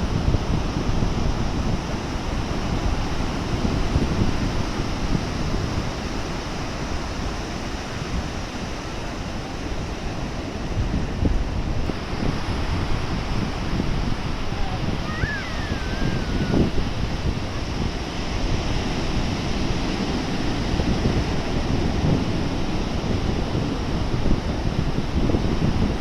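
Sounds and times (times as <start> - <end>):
sea surf washing in: 0.0 - 26.0
wind buffeting microphone: 0.0 - 26.0.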